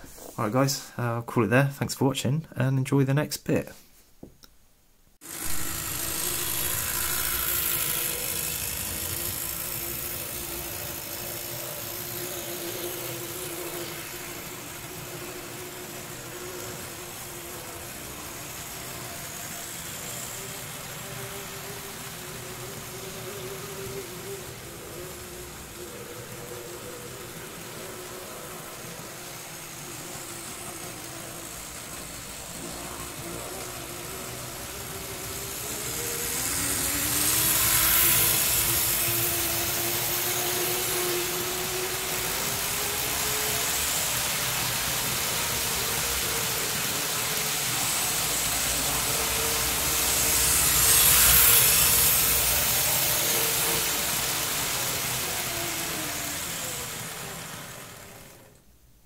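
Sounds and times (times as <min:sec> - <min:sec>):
model train rolling rattle: 0:05.2 - 0:58.7
small motor whine: 0:05.2 - 0:58.8.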